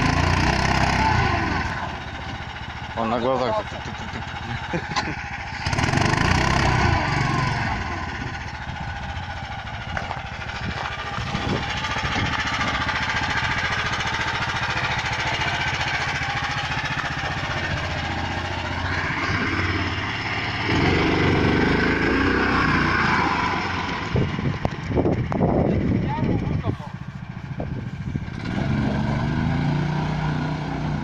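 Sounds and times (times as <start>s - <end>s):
all-terrain vehicle engine: 0.0s - 31.0s.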